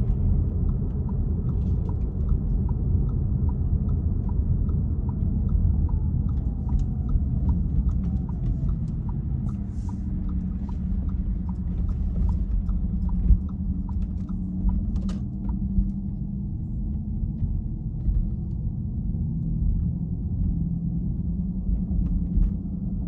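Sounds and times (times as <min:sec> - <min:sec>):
car driving: 0:00.0 - 0:23.0.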